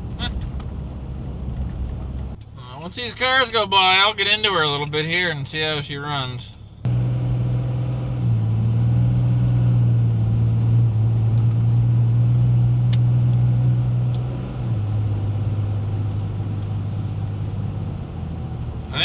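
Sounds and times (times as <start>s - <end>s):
diesel pickup engine droning: 0.0s - 19.0s.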